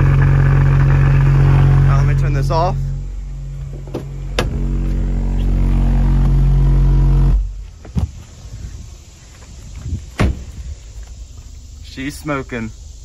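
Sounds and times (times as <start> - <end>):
subwoofer buzzy low drone: 0.0 - 13.0.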